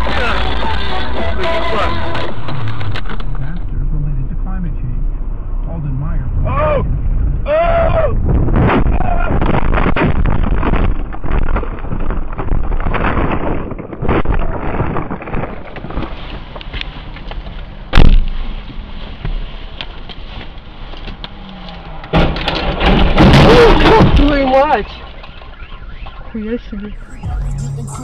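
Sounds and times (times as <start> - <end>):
car road and wind noise: 0.0 - 28.0.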